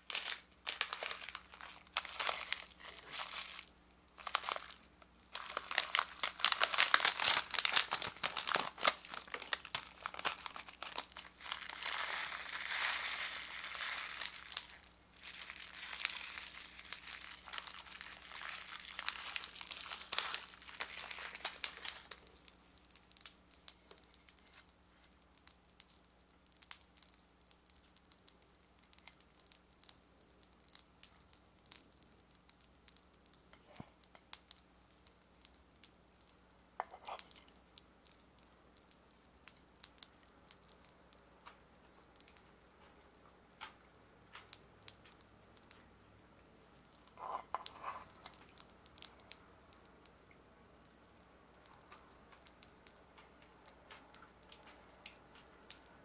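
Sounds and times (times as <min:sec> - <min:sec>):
faint crackles: 0:00.0 - 0:56.0
foil snack packet crinkling: 0:00.0 - 0:56.0.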